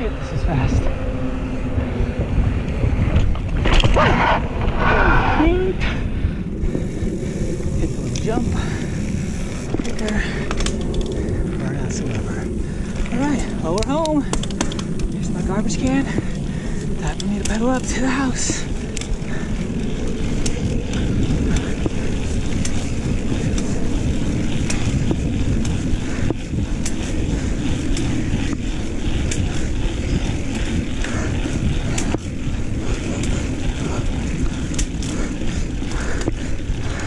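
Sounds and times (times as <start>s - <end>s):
bike clicks and rattles: 0.0s - 37.0s
bike tyre rumble on pavement: 0.0s - 37.0s
wind buffeting microphone: 0.0s - 37.0s.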